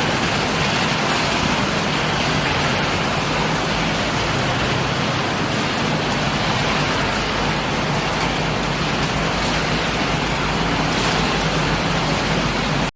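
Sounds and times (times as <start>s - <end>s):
crushing line machine noise: 0.0s - 12.9s
low machine hum: 0.0s - 12.9s.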